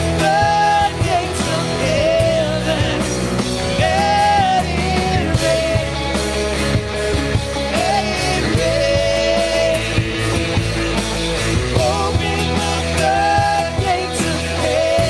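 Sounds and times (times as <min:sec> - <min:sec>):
live rock band playing: 0:00.0 - 0:15.0
sliding lead melody: 0:00.0 - 0:15.0.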